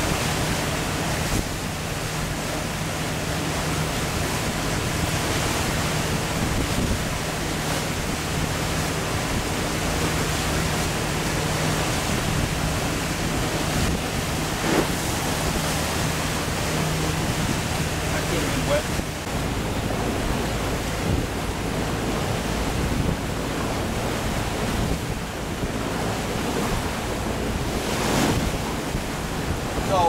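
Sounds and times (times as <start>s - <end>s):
water rushing along hull: 0.0s - 30.0s
wind on microphone: 0.0s - 30.0s.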